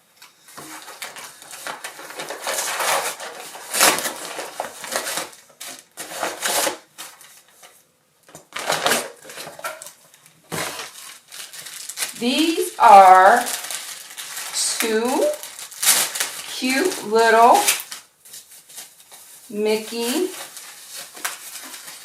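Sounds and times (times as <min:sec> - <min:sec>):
packaging rustling and crinkling: 0:00.3 - 0:22.0.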